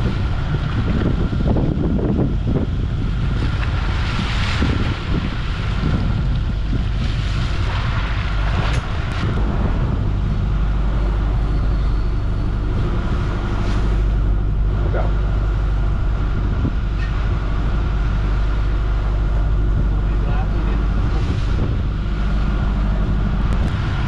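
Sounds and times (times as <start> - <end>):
boat machinery droning: 0.0 - 24.0
faint steady whine: 0.0 - 24.0.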